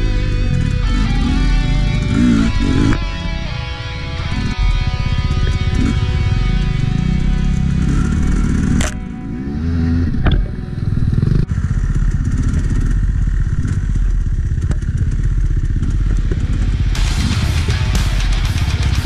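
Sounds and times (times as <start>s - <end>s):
dirt bike engine chugging: 0.0s - 19.0s.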